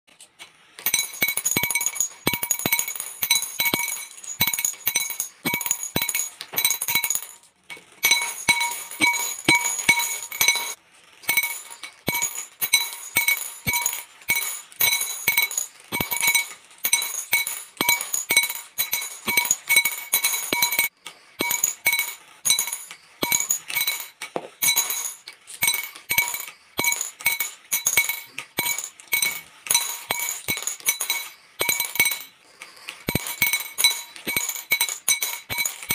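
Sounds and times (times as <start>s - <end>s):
glass marbles clinking into bowls: 0.7s - 35.9s.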